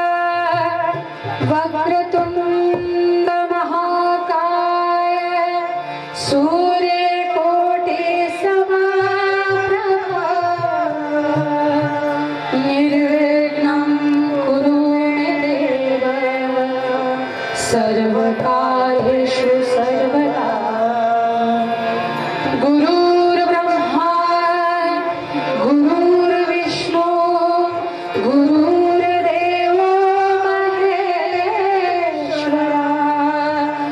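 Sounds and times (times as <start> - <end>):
instrumental accompaniment: 0.0 - 33.9
woman singing devotional song: 0.0 - 33.9.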